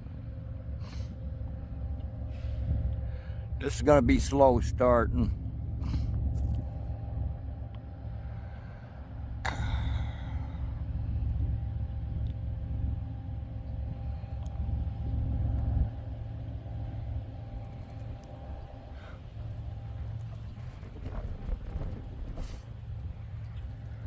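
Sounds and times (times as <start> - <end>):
diesel locomotive rumbling: 0.0 - 24.0.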